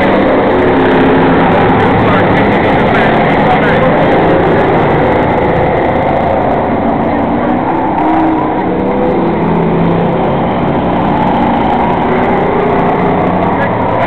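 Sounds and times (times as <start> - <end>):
racing car engines roaring: 0.0 - 14.0.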